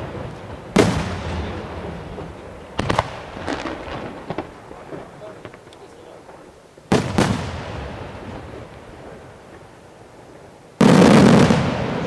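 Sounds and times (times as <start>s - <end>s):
firework shells booming: 0.0s - 9.7s, 10.8s - 12.0s.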